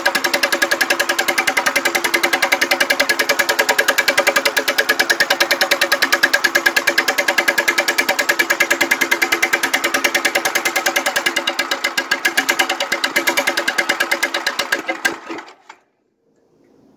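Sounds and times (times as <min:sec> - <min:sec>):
single-cylinder engine running: 0:00.0 - 0:15.8.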